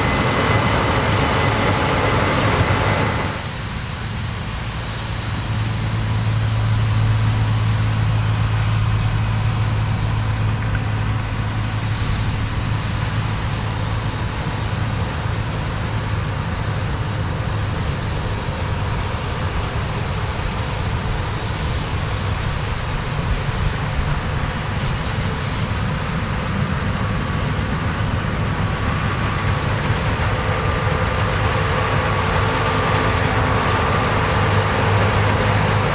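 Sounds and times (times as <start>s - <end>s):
combine harvesters running: 0.0s - 35.9s.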